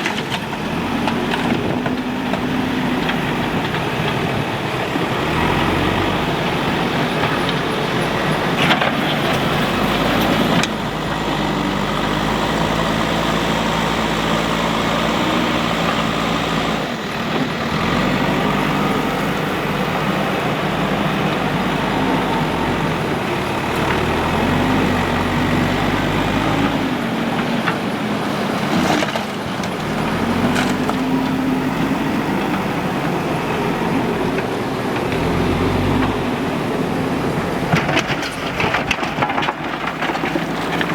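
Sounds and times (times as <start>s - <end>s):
diesel engines revving under load: 0.0s - 40.9s.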